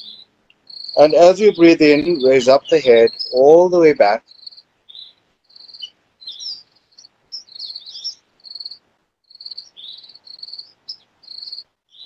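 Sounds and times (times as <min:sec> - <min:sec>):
birds chirping: 0:00.0 - 0:12.0
insects chirping in trills: 0:00.0 - 0:12.0.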